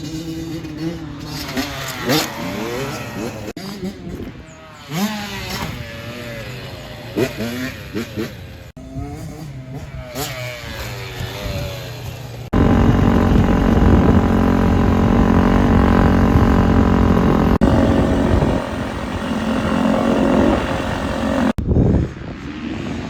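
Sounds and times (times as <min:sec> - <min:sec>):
dirt bike engines running: 0:00.0 - 0:21.6.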